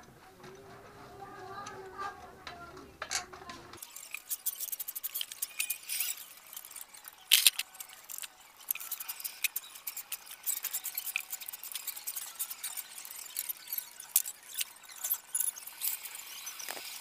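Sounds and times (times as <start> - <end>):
metal parts and tools clinking: 3.0 - 17.0.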